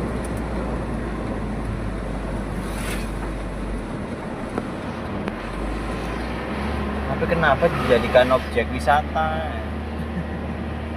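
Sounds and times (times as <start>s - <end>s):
vehicle road and wind noise: 0.0s - 10.9s.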